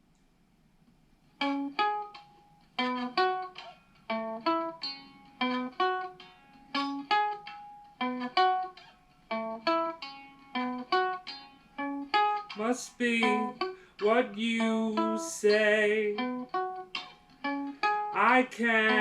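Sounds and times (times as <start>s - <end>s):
plucked string instrument melody: 1.3s - 19.0s.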